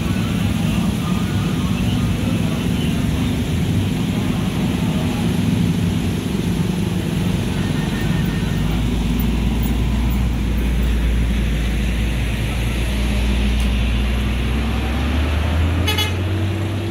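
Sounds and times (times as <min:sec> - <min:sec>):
truck engine passing: 0:00.0 - 0:16.9.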